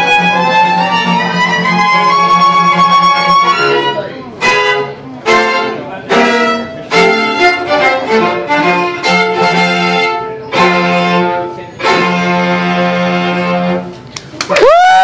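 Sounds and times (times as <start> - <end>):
string quartet bowed chords: 0.0 - 14.1.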